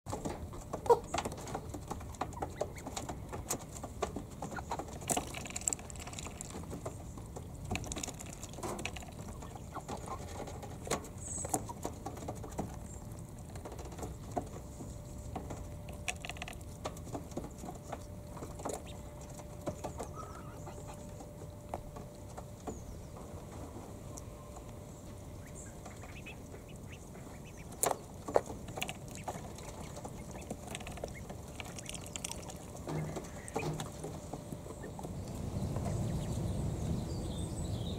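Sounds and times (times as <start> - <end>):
ducklings peeping: 0.1 - 37.9.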